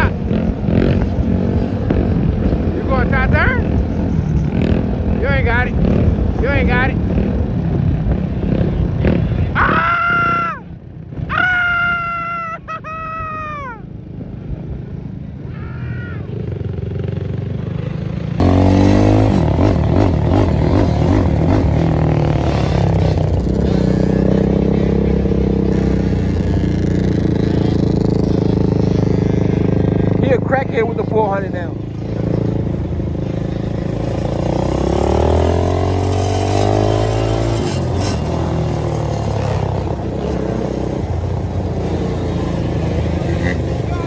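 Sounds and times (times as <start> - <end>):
quad engines revving: 0.0 - 10.6, 17.4 - 44.0.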